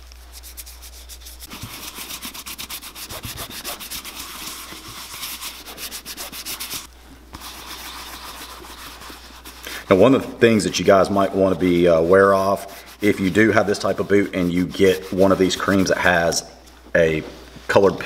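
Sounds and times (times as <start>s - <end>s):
hand rubbing leather boot: 0.0s - 16.4s.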